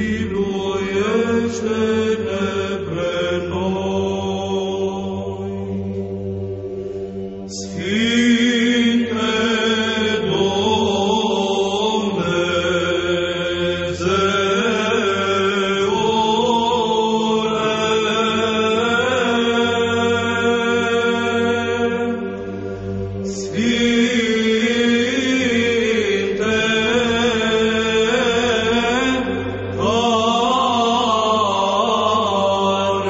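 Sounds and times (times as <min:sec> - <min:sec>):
low vocal drone: 0:00.0 - 0:33.0.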